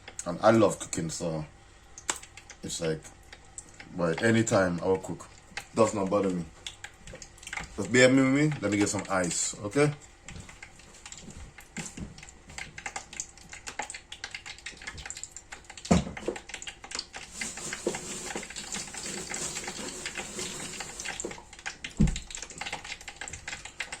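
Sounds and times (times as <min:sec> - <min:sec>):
hot oil crackling and spitting: 0:01.7 - 0:24.0.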